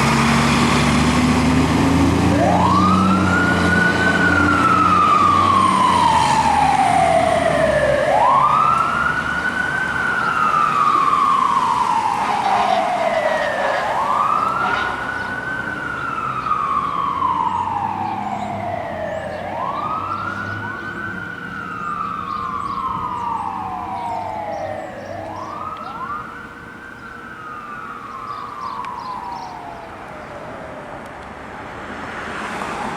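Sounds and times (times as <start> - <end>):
fire engine siren wailing: 0.0 - 31.6, 32.3 - 32.9.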